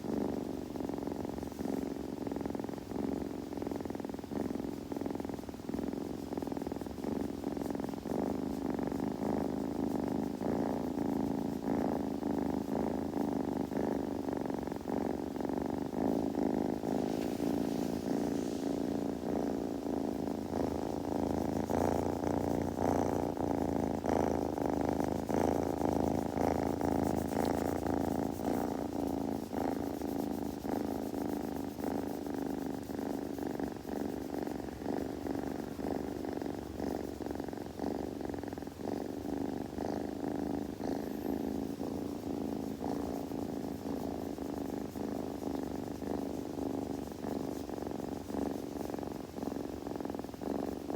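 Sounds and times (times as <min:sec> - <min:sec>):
kitten purring: 0:00.0 - 0:50.9.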